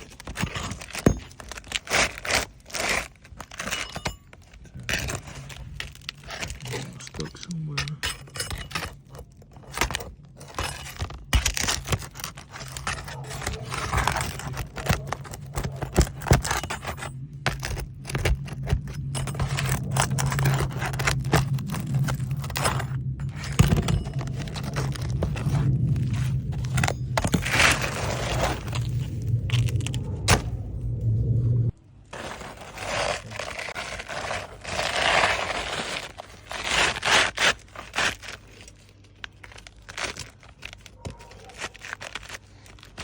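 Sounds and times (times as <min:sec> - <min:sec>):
roofing tool scraping shingles: 0:00.0 - 0:07.2, 0:07.9 - 0:30.4, 0:32.1 - 0:43.0
low steady hum: 0:00.0 - 0:43.0.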